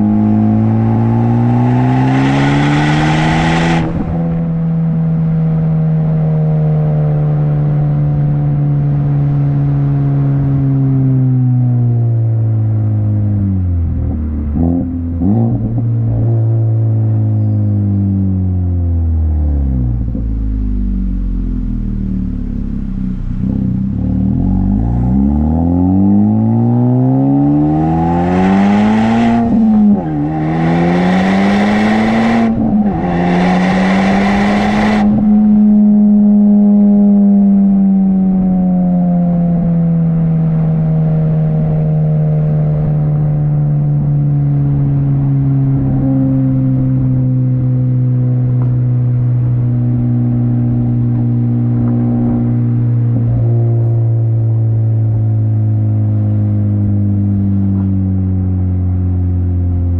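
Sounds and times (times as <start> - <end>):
car engine accelerating with rasp: 0.0 - 59.9.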